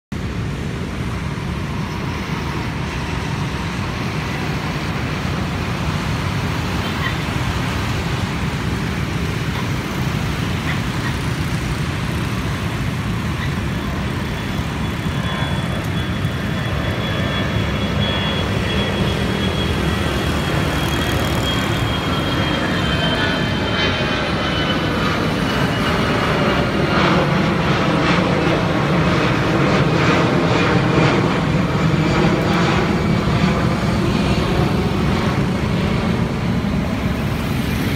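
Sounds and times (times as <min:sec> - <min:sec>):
jet engines rumbling overhead: 0:00.1 - 0:37.9
road traffic: 0:00.1 - 0:37.9.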